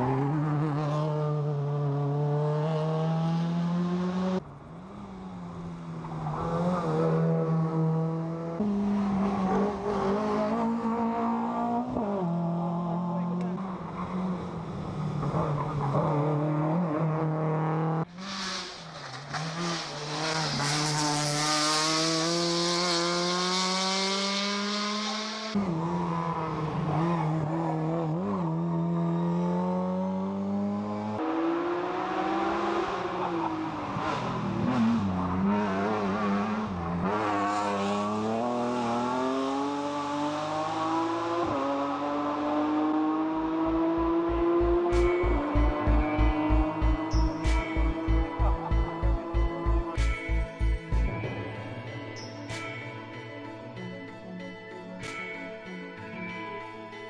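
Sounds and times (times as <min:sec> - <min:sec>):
rally car engines at hard throttle: 0:00.0 - 0:51.3.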